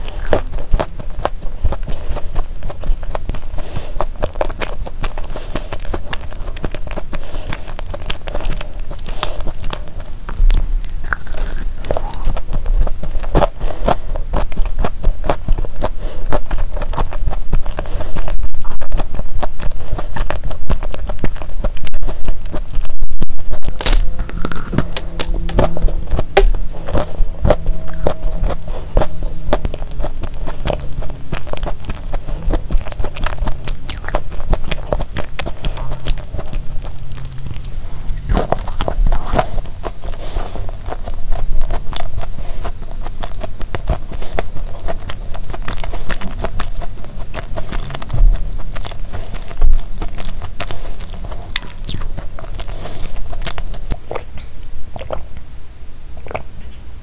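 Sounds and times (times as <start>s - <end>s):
chewing cookie: 0.0s - 55.5s, 56.2s - 56.8s.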